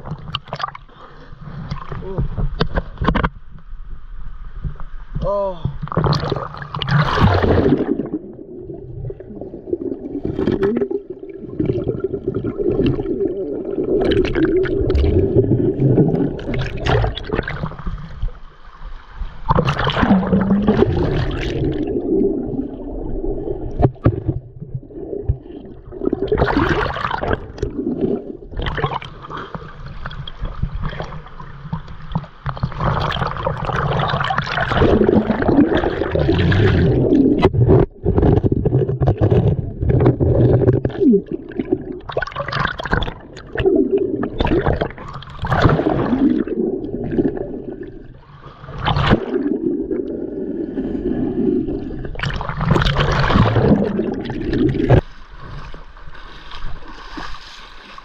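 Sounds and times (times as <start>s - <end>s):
stream water gurgling and splashing: 5.7s - 58.0s.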